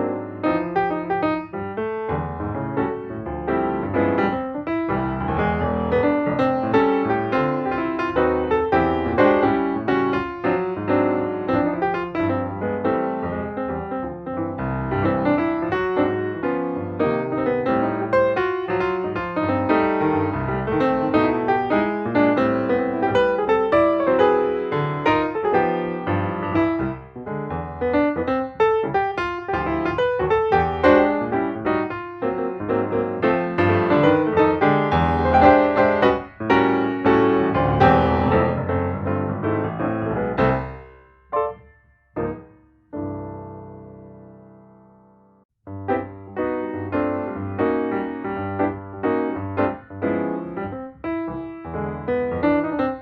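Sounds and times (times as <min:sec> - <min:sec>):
piano piece: 0:00.0 - 0:53.0.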